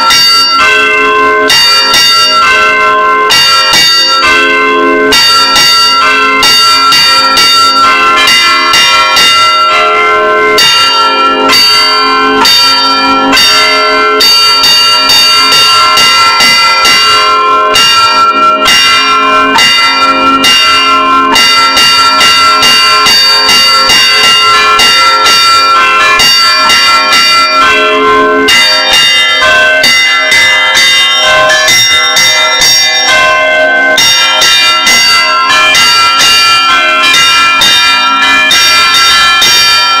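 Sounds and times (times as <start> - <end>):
church bells ringing: 0.0 - 40.0.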